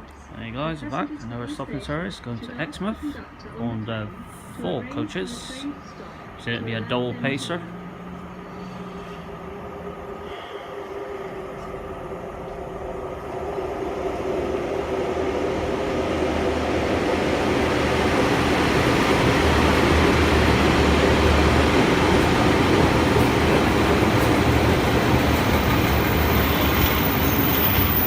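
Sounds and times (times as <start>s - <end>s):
diesel train engine: 0.0s - 28.0s
train wheel noise: 0.0s - 28.0s.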